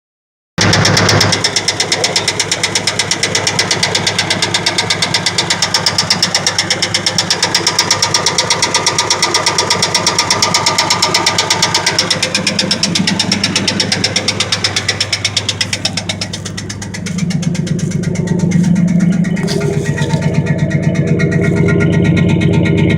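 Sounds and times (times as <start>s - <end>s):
engine idling: 0.6s - 22.9s
engine ticking: 0.6s - 22.9s.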